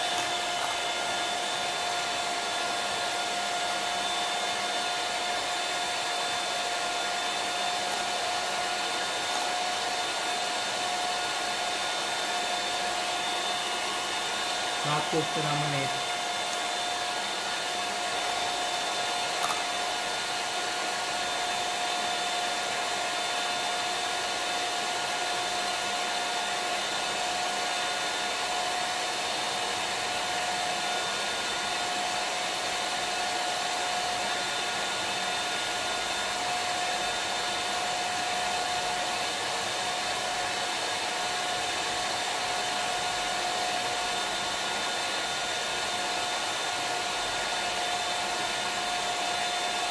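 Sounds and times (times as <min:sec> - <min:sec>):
electric hand mixer whining: 0:00.0 - 0:49.9.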